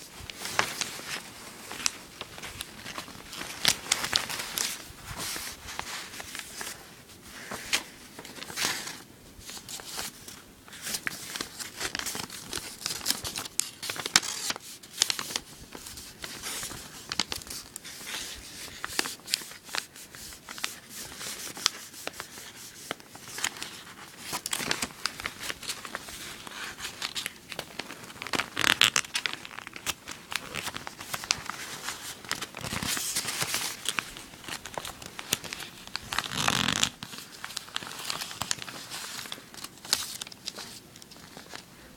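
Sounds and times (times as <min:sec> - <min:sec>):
paper rustling and crinkling: 0:00.0 - 0:41.9.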